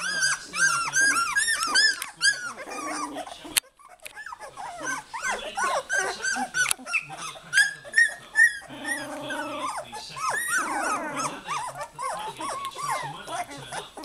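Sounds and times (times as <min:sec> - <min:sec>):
puppies whining and squealing: 0:00.0 - 0:14.0.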